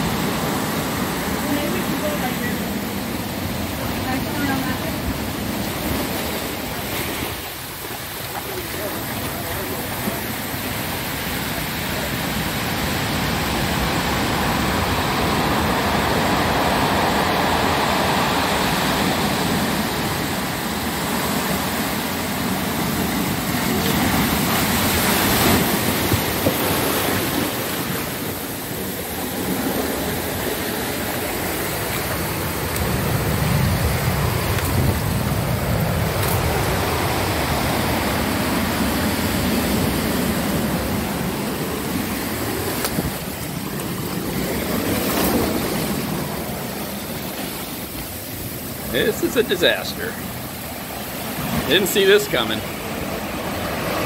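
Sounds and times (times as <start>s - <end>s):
surf crashing against seawall: 0.0s - 54.0s.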